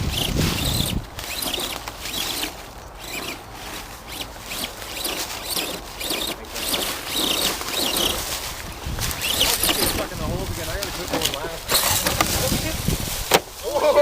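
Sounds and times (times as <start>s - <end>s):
electric motors whining: 0.0s - 14.0s
tyres scraping over terrain: 0.0s - 14.0s.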